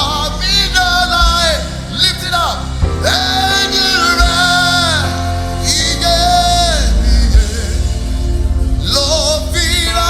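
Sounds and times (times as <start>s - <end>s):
instrumental backing with deep bass: 0.0s - 10.0s.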